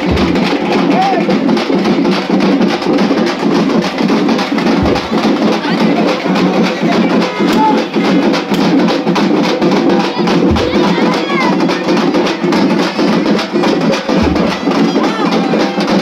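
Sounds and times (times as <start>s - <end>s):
fast drumming: 0.0s - 16.0s.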